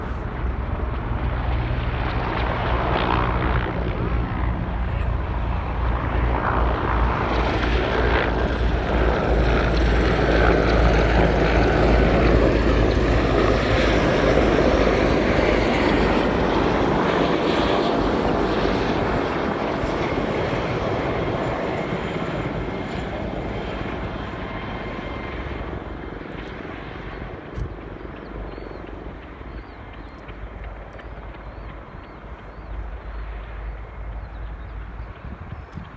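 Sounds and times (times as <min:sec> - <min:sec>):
helicopter rotor and turbine: 0:00.0 - 0:35.9.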